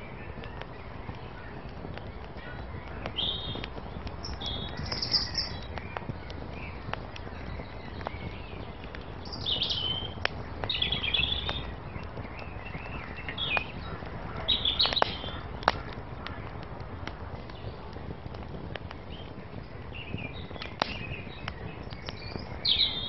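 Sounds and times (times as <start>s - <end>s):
small birds chirping: 0.0s - 23.0s
wood fire crackling and popping: 0.0s - 23.0s.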